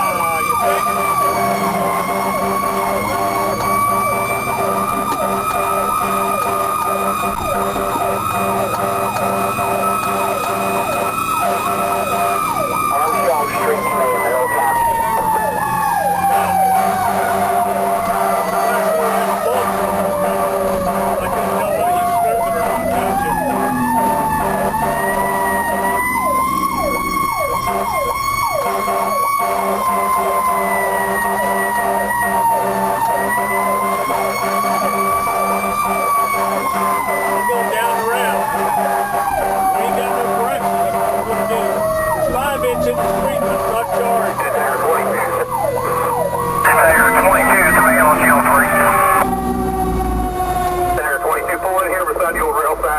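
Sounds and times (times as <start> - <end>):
electronic siren sweeps: 0.0 - 52.0
mechanical siren whine: 0.0 - 52.1
truck engine drone: 0.0 - 52.9.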